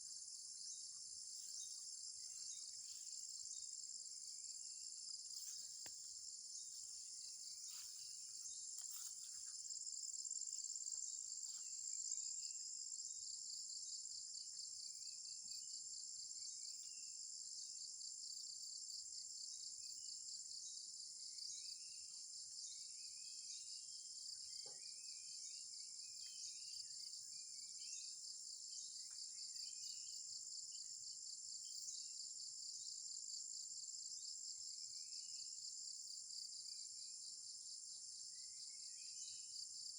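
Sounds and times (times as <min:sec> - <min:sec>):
forest insects chorus: 0:00.0 - 0:39.9.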